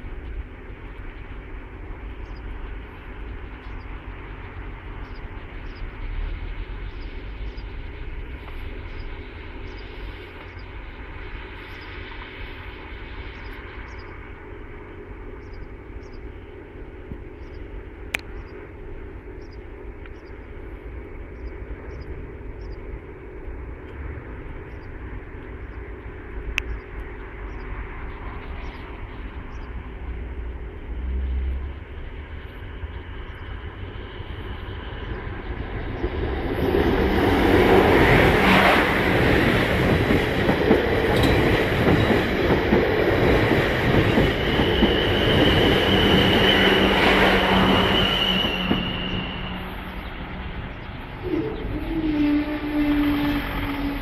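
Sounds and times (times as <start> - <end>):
electric train rumbling past: 0.0 - 54.0.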